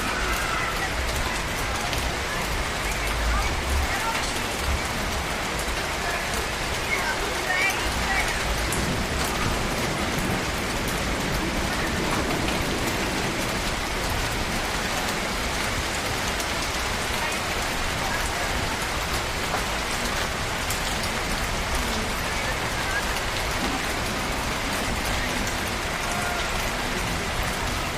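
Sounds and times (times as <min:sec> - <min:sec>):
rain drop ticks: 0:00.0 - 0:27.9
steady rain hiss: 0:00.0 - 0:27.9.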